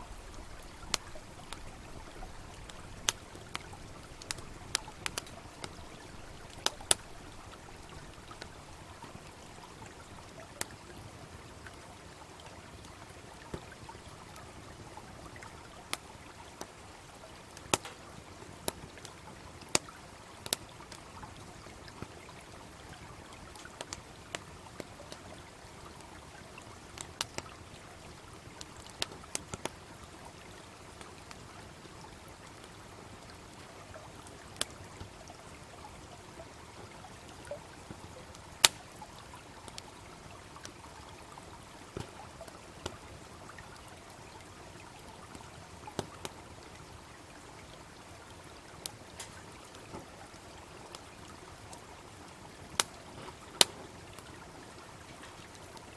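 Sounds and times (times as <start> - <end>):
campfire crackling and popping: 0.0 - 55.9
stream babbling: 0.0 - 55.9.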